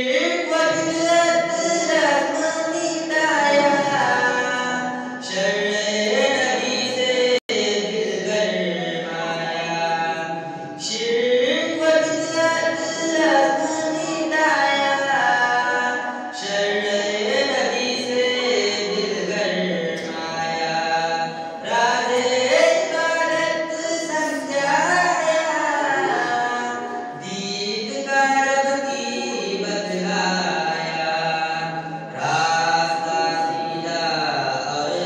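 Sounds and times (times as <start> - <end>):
man chanting devotional poem: 0.0 - 35.0.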